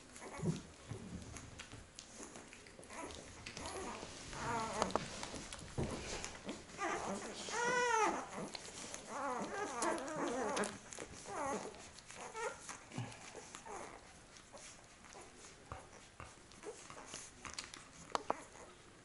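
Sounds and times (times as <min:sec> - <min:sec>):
puppies whimpering: 0:00.1 - 0:19.0.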